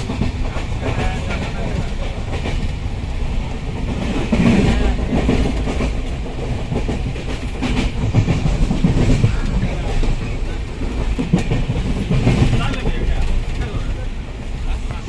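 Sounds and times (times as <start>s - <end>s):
clickety-clack clatter: 0.0s - 2.9s, 3.5s - 15.0s
train wheels rumbling on rails: 0.0s - 15.0s.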